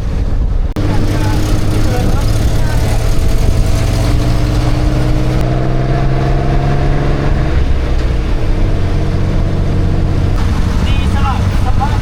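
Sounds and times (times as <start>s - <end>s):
road noise: 0.0s - 12.0s
car engine running: 0.8s - 12.0s.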